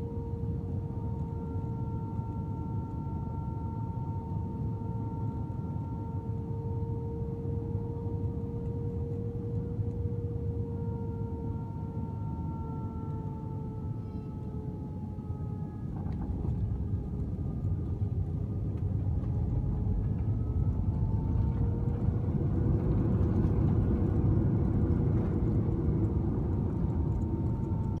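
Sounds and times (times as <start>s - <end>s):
jet engine whine: 0.0s - 28.0s
aircraft cabin rumble: 0.1s - 28.0s.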